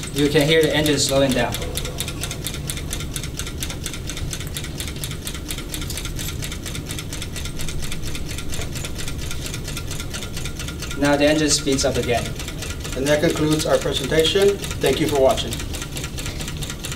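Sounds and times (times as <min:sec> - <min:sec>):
small engine linkage clicking: 0:00.0 - 0:16.9.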